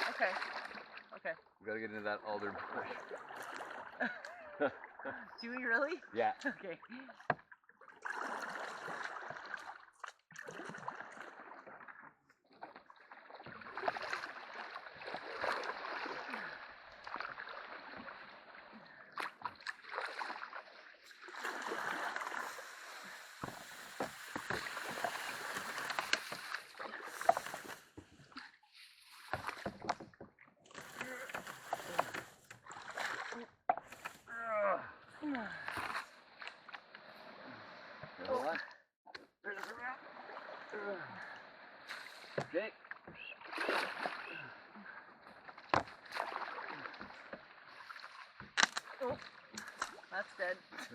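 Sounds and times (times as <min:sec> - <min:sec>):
paddle splashing in water: 0:00.0 - 0:01.2, 0:02.3 - 0:05.8, 0:06.8 - 0:50.9.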